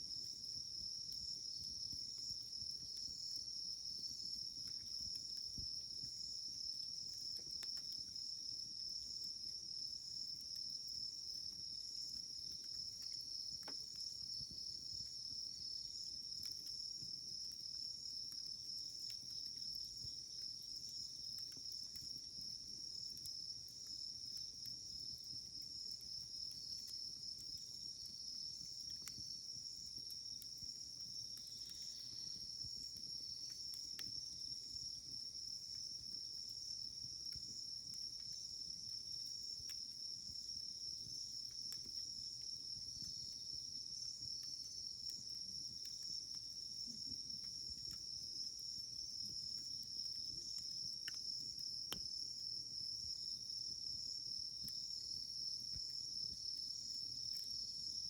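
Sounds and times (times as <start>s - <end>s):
firewood crackling and popping: 0.0s - 52.2s
insects trilling: 0.1s - 58.0s.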